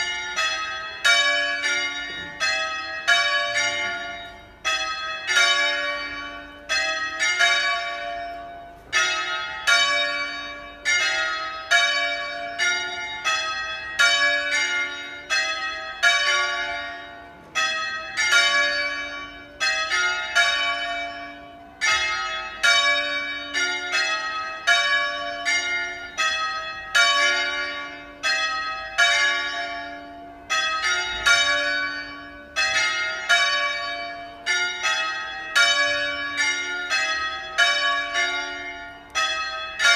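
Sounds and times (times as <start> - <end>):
bronze church bells pealing: 0.0 - 39.9.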